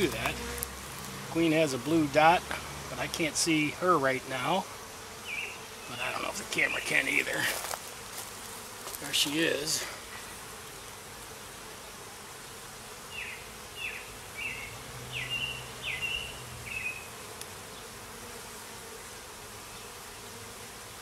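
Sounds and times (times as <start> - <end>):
bees humming at a hive: 0.0 - 21.0.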